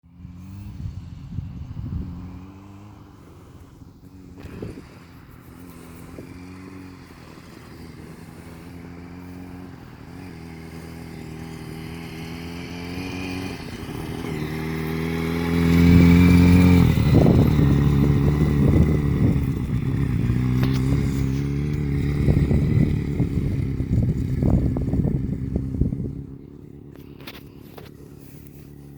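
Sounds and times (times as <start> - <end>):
motorcycle engine running: 0.0 - 28.9
rough crackling and buffeting: 0.0 - 28.9.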